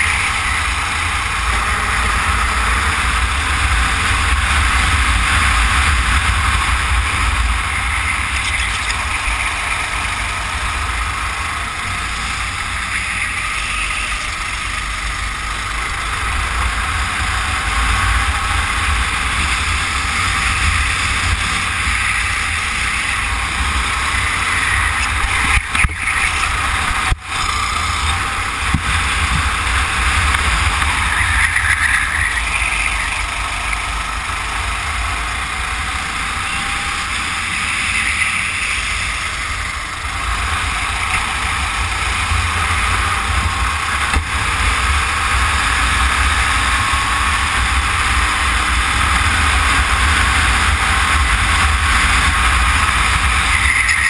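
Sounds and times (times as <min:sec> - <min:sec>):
kart engine running: 0:00.0 - 0:54.0.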